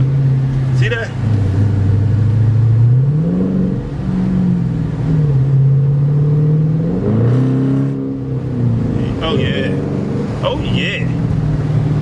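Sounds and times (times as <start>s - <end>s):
car engine revving under acceleration: 0.0s - 12.0s.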